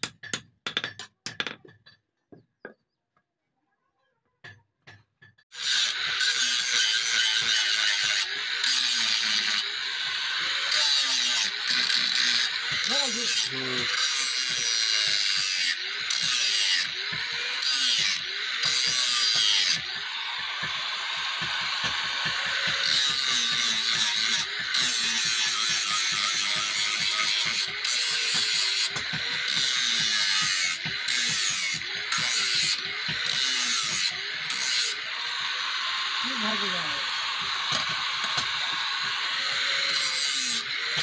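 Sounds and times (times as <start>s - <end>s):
angle grinder grinding steel: 5.5s - 41.0s.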